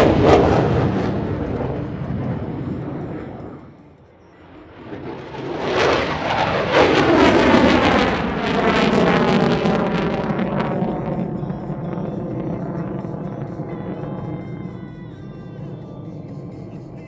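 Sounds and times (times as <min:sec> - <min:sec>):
jet fly-by roar: 0:00.0 - 0:17.0.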